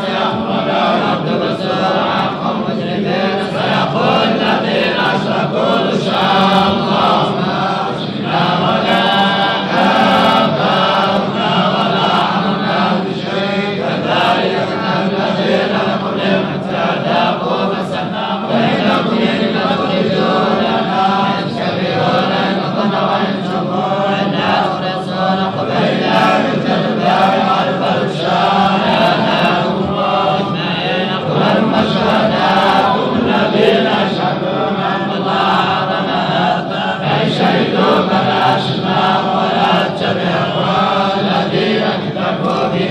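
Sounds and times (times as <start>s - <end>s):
person chanting recitation: 0.0s - 42.9s.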